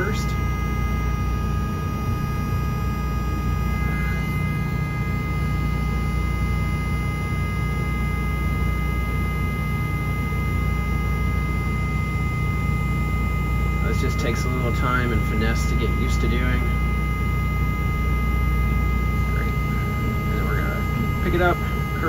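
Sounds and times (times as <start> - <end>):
excavator diesel drone: 0.0 - 22.0
hydraulic whine: 0.0 - 22.0.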